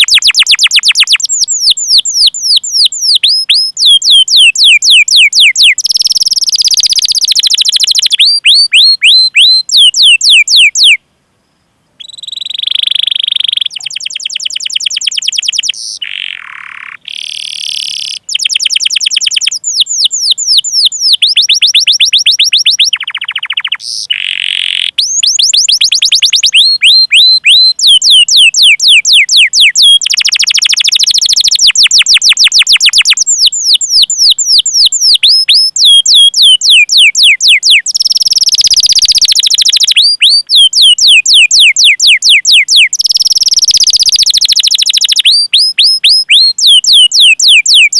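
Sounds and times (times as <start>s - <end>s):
canary singing trills: 0.0s - 11.0s, 12.0s - 47.9s.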